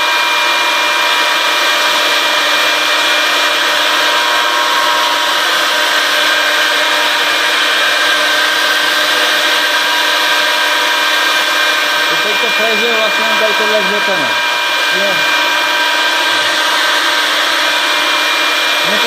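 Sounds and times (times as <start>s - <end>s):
router spindle milling wood: 0.0s - 19.0s.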